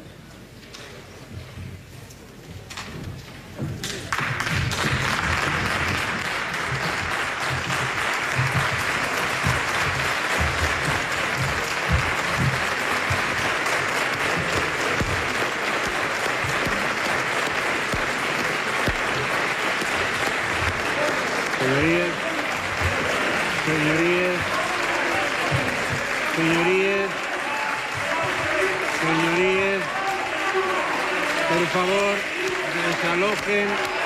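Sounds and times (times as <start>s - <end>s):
people clapping in hall: 3.6s - 34.0s.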